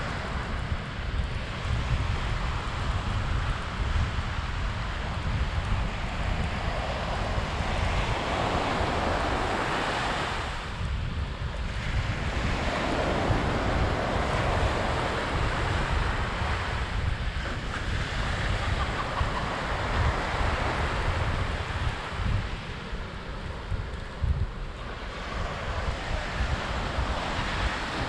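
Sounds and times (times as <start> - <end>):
surf washing on sandy beach: 0.0 - 28.0
wind buffeting microphone: 0.0 - 28.0.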